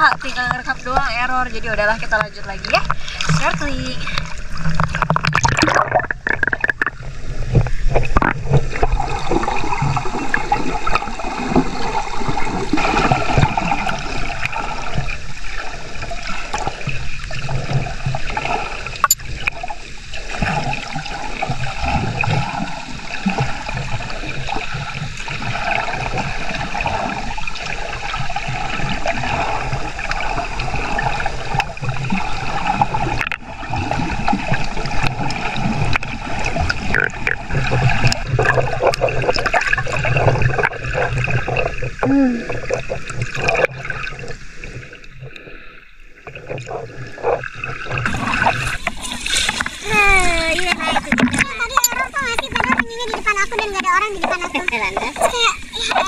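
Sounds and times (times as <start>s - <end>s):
sea water sloshing and gurgling: 0.0s - 56.0s.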